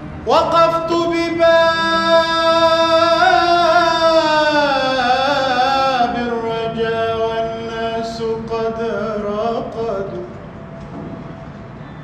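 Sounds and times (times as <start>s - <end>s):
man singing religious chant: 0.2s - 10.4s.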